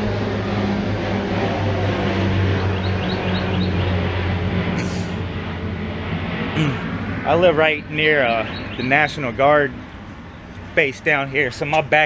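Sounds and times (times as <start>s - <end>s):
aircraft flying low overhead: 0.0s - 12.0s.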